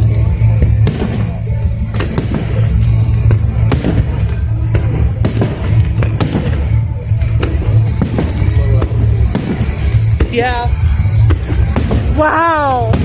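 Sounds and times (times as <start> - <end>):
fireworks bangs: 0.0 - 13.0
heavy low rumble: 0.0 - 13.0
music playing: 0.0 - 13.0.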